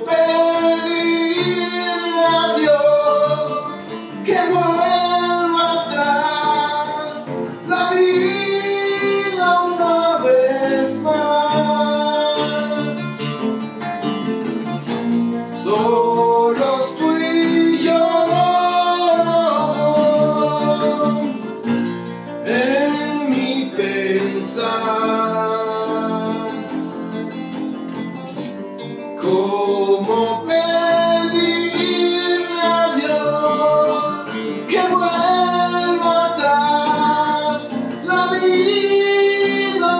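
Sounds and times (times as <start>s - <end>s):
man singing: 0.0s - 13.5s, 15.4s - 21.7s, 22.3s - 27.9s, 28.8s - 39.9s
acoustic guitars: 0.0s - 39.9s.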